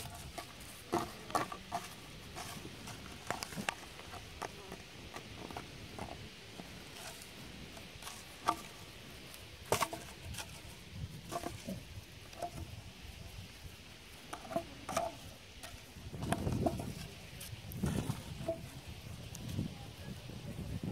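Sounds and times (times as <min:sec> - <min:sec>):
plastic bottle crinkling: 0:00.0 - 0:12.8, 0:14.2 - 0:19.5.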